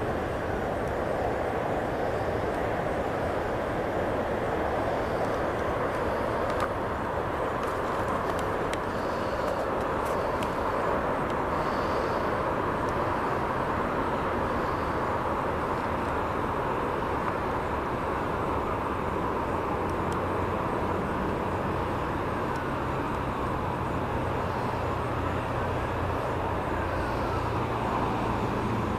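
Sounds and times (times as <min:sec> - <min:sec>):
outdoor hiss and rumble: 0:00.0 - 0:28.9.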